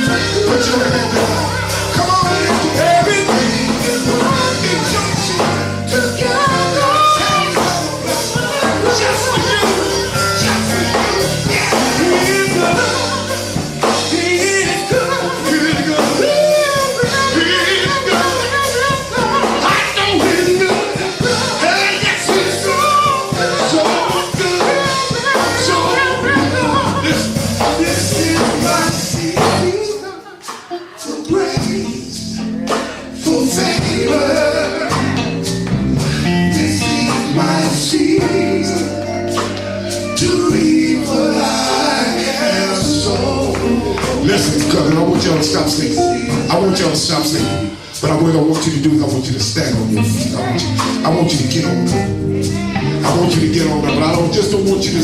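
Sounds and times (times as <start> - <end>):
gospel band playing: 0.0 - 55.0
singer and congregation singing: 0.0 - 55.0.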